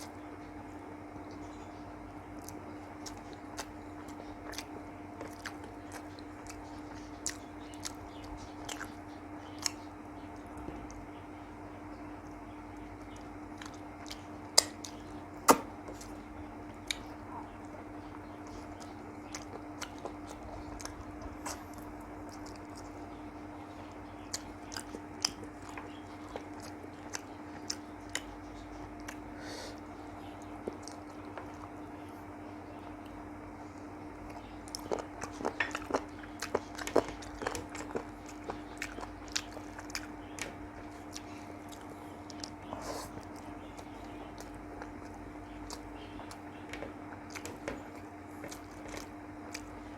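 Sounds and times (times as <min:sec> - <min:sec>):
steady low hum: 0:00.0 - 0:49.9
wet chewing: 0:00.0 - 0:49.9.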